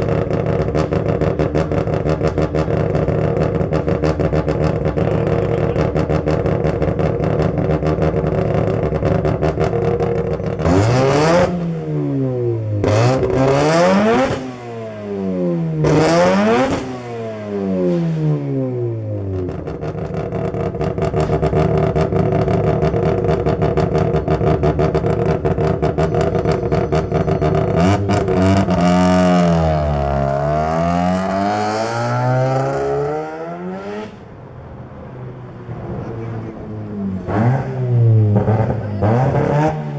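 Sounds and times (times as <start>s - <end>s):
rotary engine idling and revving: 0.0s - 39.9s.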